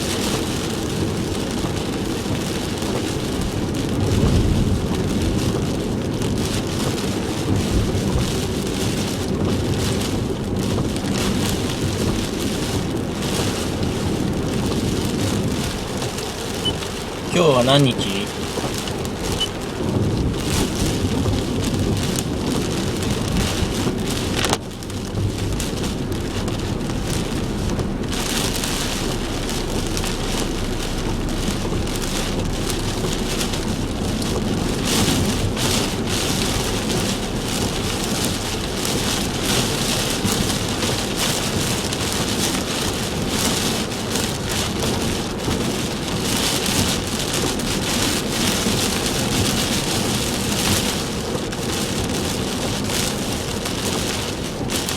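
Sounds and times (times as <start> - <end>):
heavy rain beating on a car: 0.0 - 54.9
low rumble of car on road: 0.0 - 54.9.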